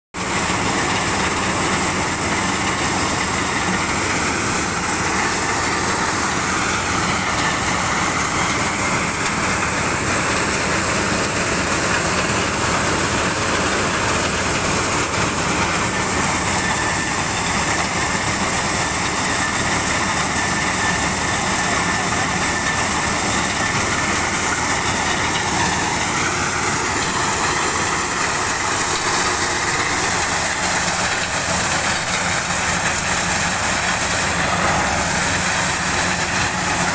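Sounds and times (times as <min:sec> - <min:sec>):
thresher mechanical din: 0:00.2 - 0:36.9.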